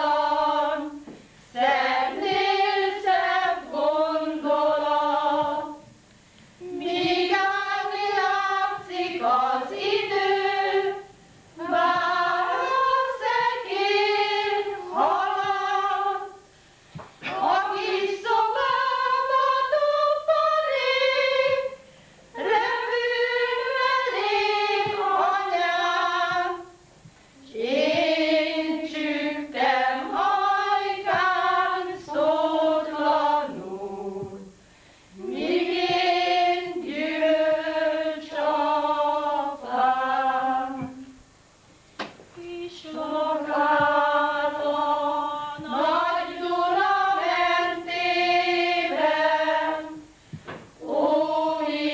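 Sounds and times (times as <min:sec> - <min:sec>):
women singing unaccompanied: 0:00.0 - 0:06.0, 0:06.6 - 0:16.5, 0:17.2 - 0:26.8, 0:27.4 - 0:41.3, 0:42.3 - 0:51.9.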